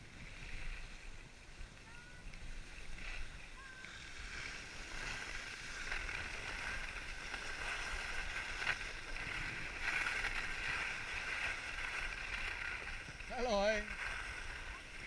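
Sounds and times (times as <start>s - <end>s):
skis scraping over packed snow: 0.0s - 15.0s.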